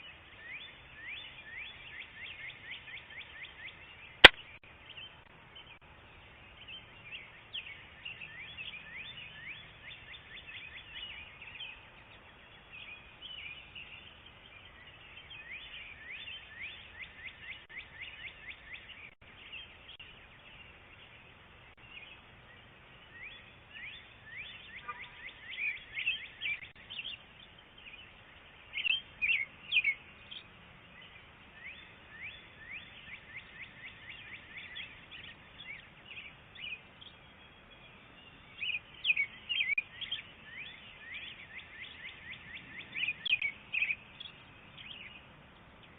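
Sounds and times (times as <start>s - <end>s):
faint steady hiss: 0.0s - 45.9s
small birds chirping: 0.0s - 45.9s.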